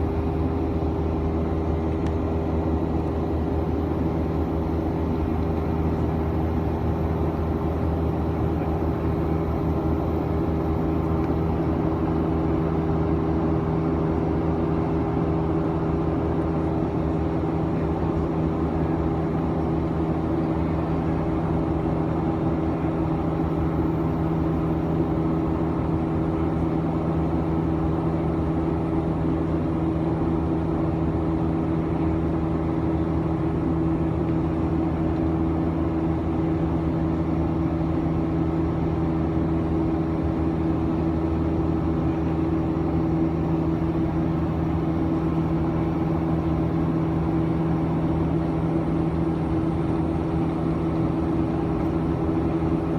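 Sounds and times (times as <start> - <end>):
jet engines humming in cabin: 0.0 - 52.9.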